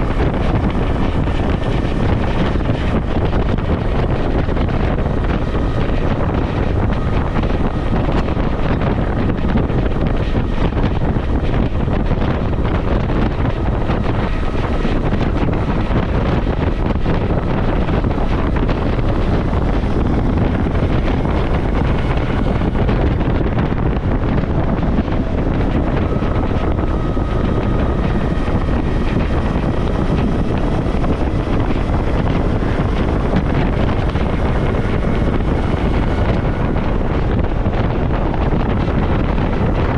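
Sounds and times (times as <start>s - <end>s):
motorcycle engine: 0.0s - 39.9s
road noise: 0.0s - 39.9s
wind buffeting microphone: 0.0s - 39.9s.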